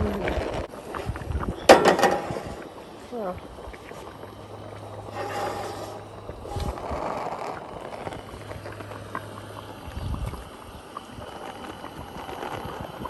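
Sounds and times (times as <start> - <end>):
wind buffeting microphone: 0.0 - 5.1, 5.9 - 13.0
low steady hum: 0.0 - 13.0.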